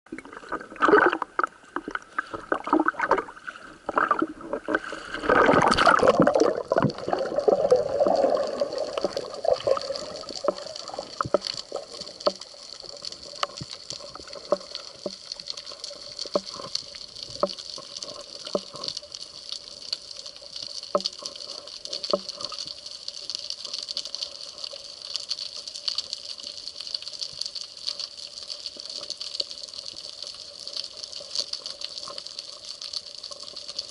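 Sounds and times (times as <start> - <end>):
underwater churning and bubbling: 0.1 - 33.9
muffled underwater hiss: 0.6 - 33.9.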